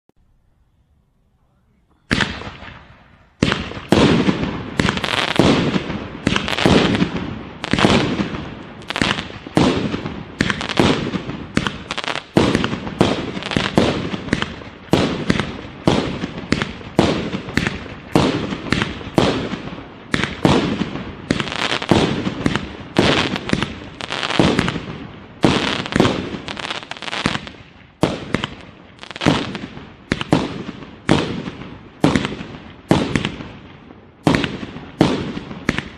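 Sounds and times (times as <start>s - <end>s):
firework launch bangs: 2.1s - 33.6s
crackling firework bursts: 2.1s - 35.9s.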